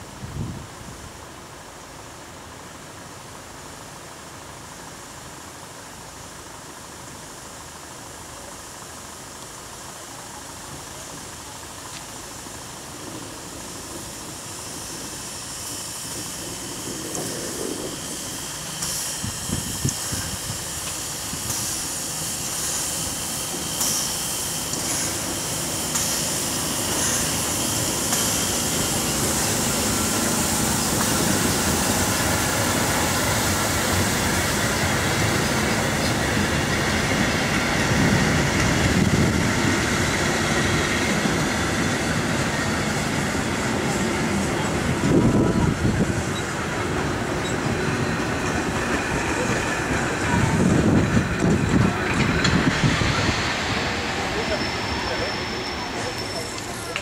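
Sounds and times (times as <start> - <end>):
steam hissing: 0.0 - 57.0
train running noise: 0.0 - 57.0.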